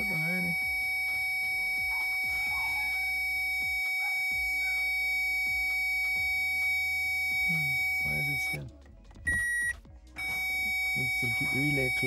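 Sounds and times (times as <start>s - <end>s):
steady electronic tones: 0.0s - 8.6s, 9.3s - 12.0s.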